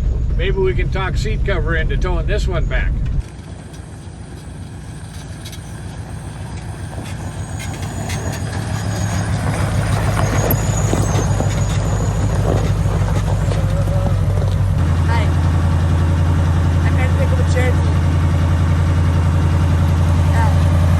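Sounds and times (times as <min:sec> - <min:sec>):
truck engine rumbling: 0:00.0 - 0:20.9
rattles and clicks: 0:02.9 - 0:20.9.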